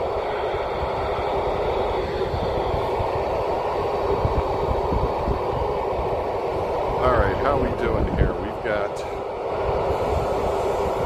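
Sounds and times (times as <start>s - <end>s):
wind buffeting on microphone: 0.0s - 11.0s.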